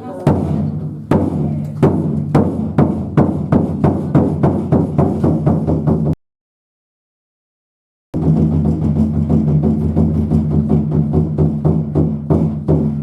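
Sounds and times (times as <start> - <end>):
taiko drums: 0.0 - 6.2, 8.2 - 13.0.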